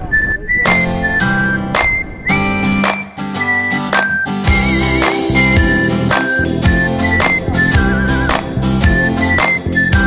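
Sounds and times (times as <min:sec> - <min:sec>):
background music with steady beat: 0:00.7 - 0:10.0.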